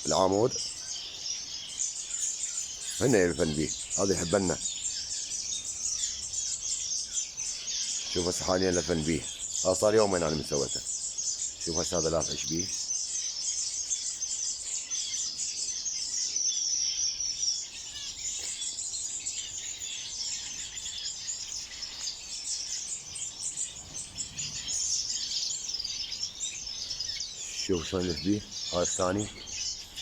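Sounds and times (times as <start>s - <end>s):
small birds chirping and twittering: 0.0s - 30.0s.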